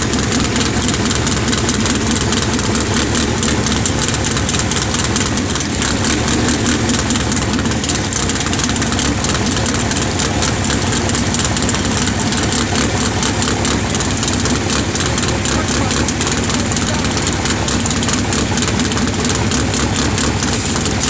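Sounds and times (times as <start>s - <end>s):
race engine choppy idle: 0.0s - 21.0s.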